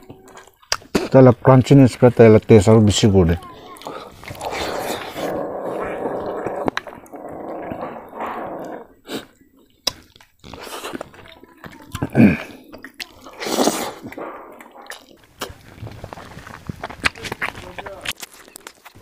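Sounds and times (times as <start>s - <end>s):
wet chewing and smacking: 0.0s - 2.3s, 3.0s - 19.0s.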